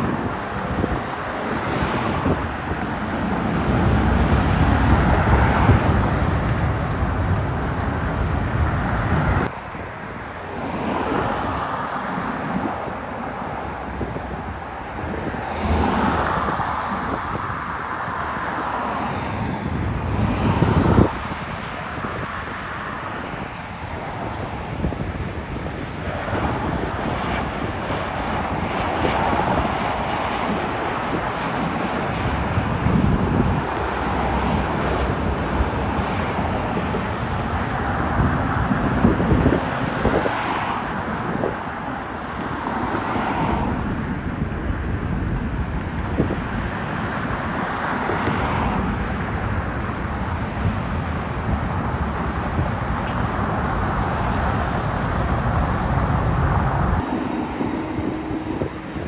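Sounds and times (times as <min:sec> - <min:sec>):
rumble of vehicles: 0:00.0 - 0:59.0
wind buffeting microphone: 0:00.0 - 0:59.0.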